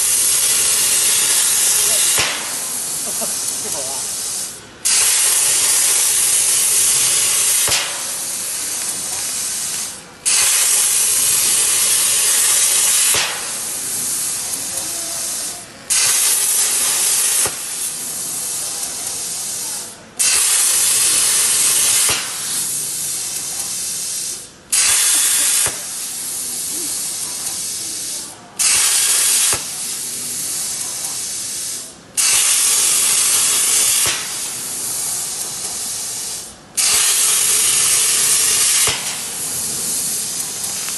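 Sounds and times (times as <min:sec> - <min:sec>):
plasma torch hissing: 0:00.0 - 0:40.9.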